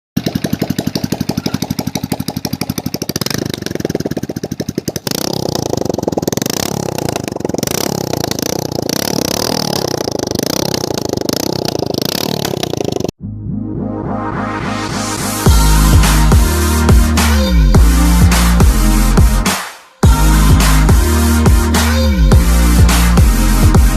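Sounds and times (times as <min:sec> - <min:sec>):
motorcycle engine idling and revving: 0:00.2 - 0:13.2, 0:15.1 - 0:23.9.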